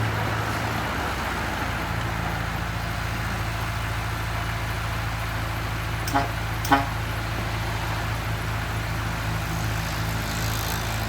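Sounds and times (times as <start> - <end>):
heavy vehicle engine humming: 0.0 - 11.0.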